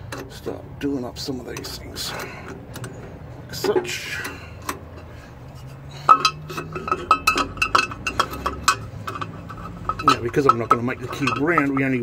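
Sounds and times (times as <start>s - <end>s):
metal parts clinking: 1.5s - 12.0s.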